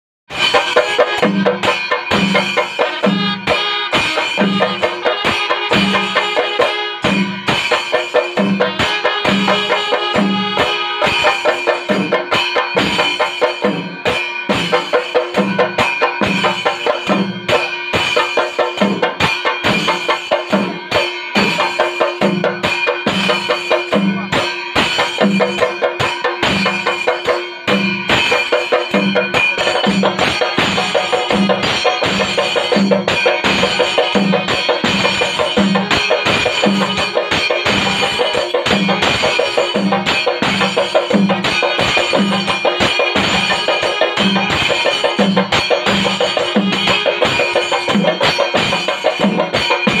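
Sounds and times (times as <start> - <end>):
rapid sharp drum strokes: 0.3 - 50.0.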